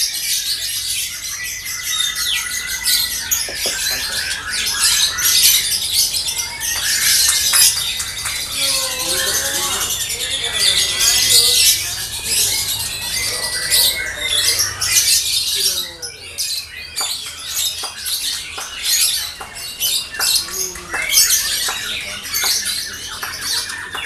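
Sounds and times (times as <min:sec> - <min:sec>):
lovebirds chattering: 0:00.0 - 0:24.0.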